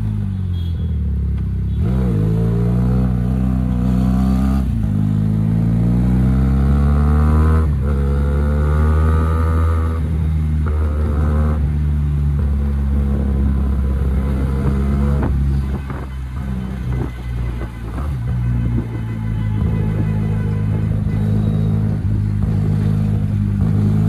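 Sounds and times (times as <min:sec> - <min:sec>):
motorcycle engine revving: 0:01.7 - 0:17.2, 0:19.6 - 0:24.0.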